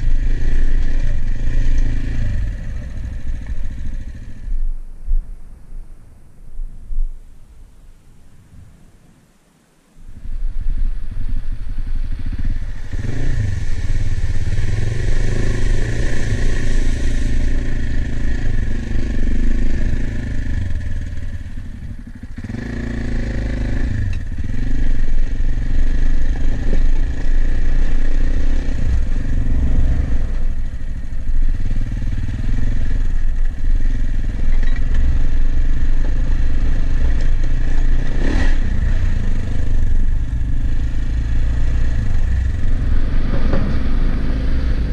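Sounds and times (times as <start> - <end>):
motorcycle engine running: 0.0 - 5.2, 10.5 - 44.9.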